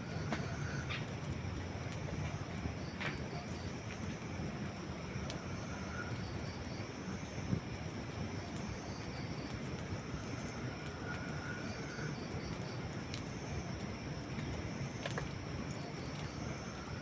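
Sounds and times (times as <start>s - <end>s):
campfire rumble: 0.0s - 17.0s
faint snaps of burning wood: 0.1s - 6.5s, 7.4s - 17.0s.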